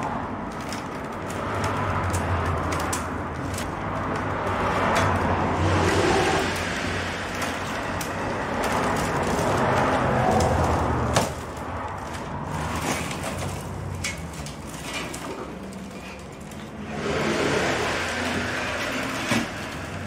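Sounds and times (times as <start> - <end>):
willow rods rustling and scraping: 0.0 - 20.0.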